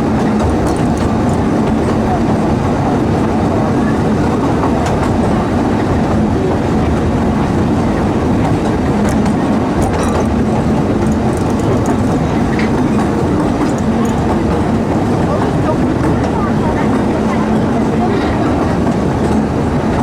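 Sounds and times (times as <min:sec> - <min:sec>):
steam train rumbling on rails: 0:00.0 - 0:20.0.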